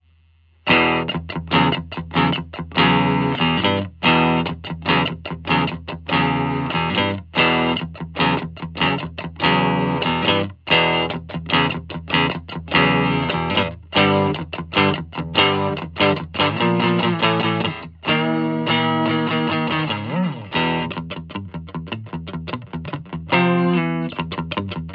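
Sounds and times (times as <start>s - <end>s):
overdriven electric guitar chords: 0.6s - 24.9s.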